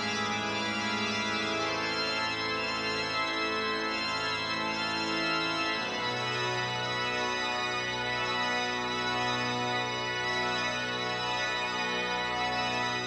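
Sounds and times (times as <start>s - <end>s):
sustained organ chords: 0.0s - 13.0s.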